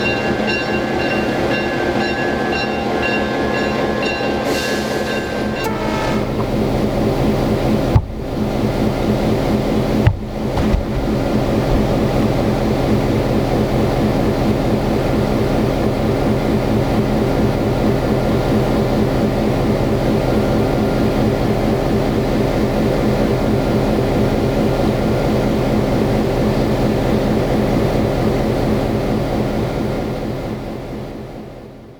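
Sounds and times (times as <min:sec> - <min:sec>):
locomotive engine droning: 0:00.0 - 0:31.8.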